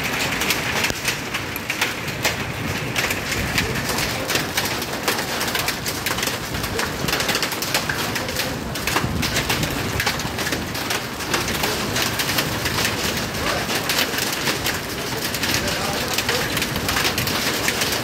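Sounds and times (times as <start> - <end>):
rain and hail on tiled floor: 0.0 - 18.0.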